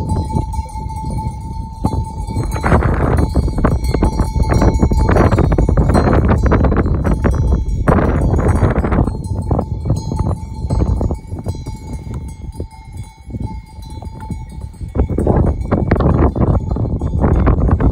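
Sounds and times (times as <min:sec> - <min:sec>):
low rumbling noise: 0:00.0 - 0:17.9
sheep bells clinking: 0:00.0 - 0:17.9.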